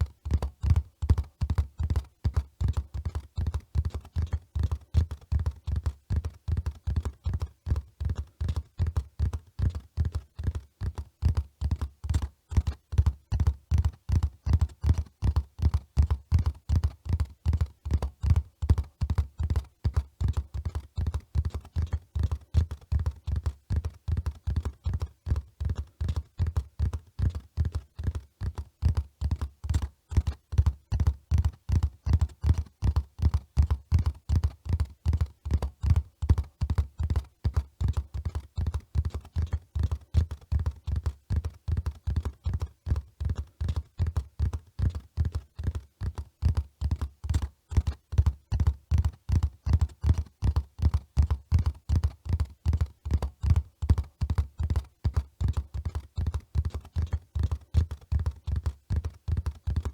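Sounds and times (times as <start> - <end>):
horse hoofbeats at a run: 0.0 - 59.9.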